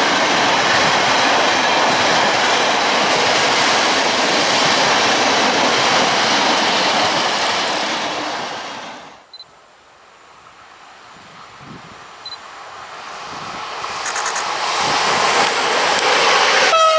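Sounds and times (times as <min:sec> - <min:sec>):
train wheels on rails: 0:00.0 - 0:09.4, 0:10.5 - 0:16.9.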